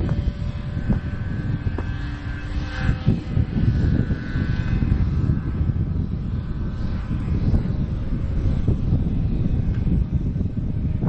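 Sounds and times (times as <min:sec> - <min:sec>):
model airplane engine droning: 0:00.0 - 0:11.0
wind rumble on microphone: 0:00.0 - 0:11.0.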